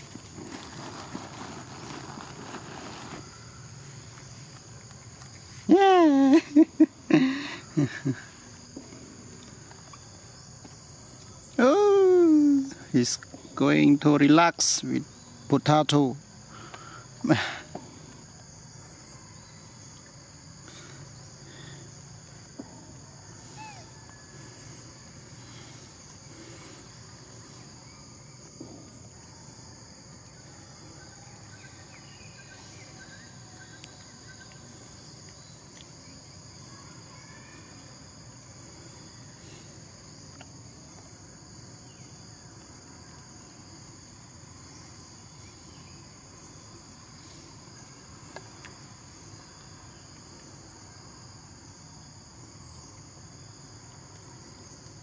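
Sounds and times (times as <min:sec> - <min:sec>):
insect chorus buzzing: 0:00.0 - 0:55.0.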